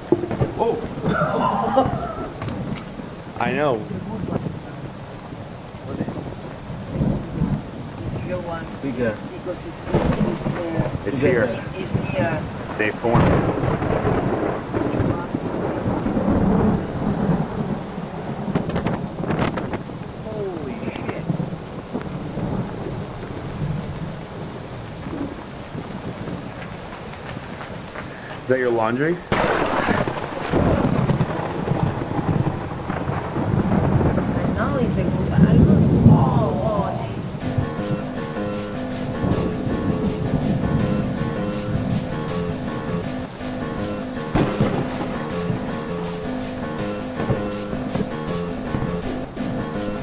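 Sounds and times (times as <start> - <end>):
steady rain: 0.0 - 50.0
thunder rumbling: 0.0 - 50.0.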